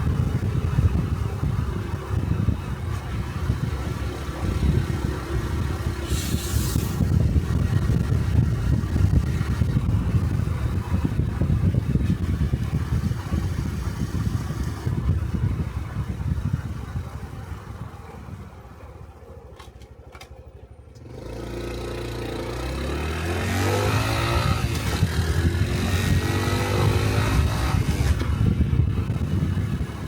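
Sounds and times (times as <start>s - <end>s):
motorcycle engine pulling away: 0.0s - 30.0s.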